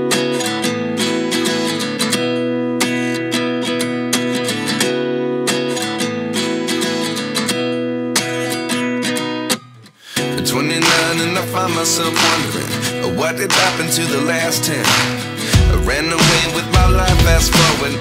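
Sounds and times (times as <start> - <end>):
strummed guitar music: 0.0 - 18.0.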